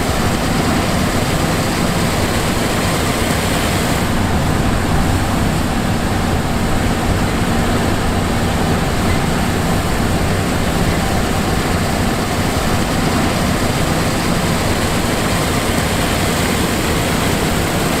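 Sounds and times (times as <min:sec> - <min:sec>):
combine harvester engine drone: 0:00.0 - 0:18.0.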